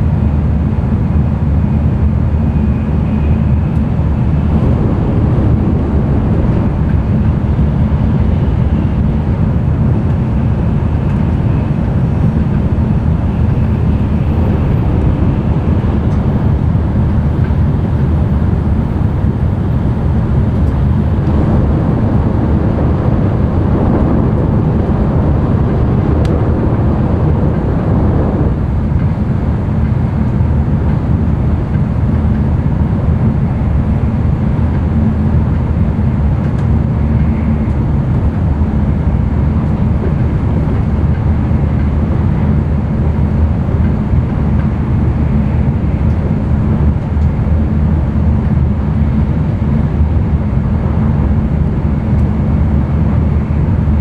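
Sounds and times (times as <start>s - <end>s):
air rushing noise: 0.0s - 54.0s
low rumble: 0.0s - 54.0s
train running at speed: 0.0s - 54.0s.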